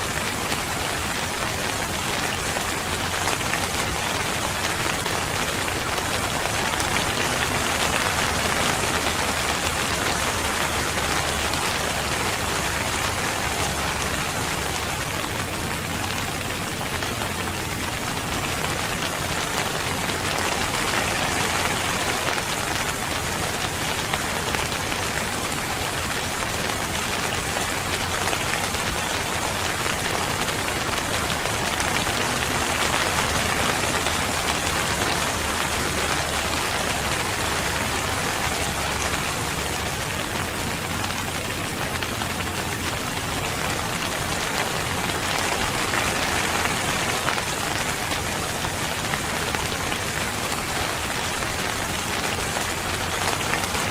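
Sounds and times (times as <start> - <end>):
rain pattering on surfaces: 0.0 - 53.9.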